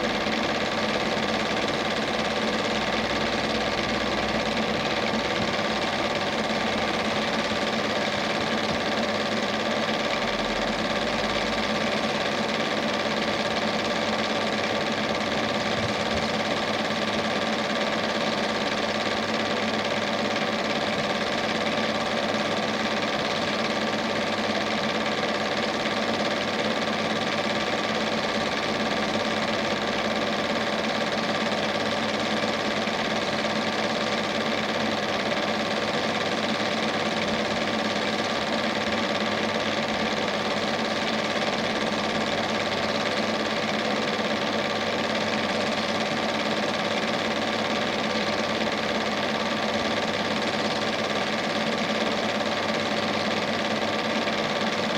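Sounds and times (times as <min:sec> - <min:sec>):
projector mechanical whirr: 0:00.0 - 0:54.9.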